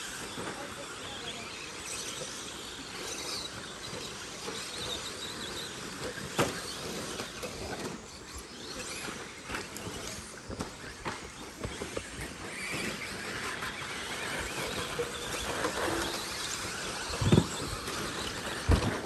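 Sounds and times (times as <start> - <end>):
rc car motors whining: 0.0 - 19.0
tyres on dirt: 0.0 - 19.0.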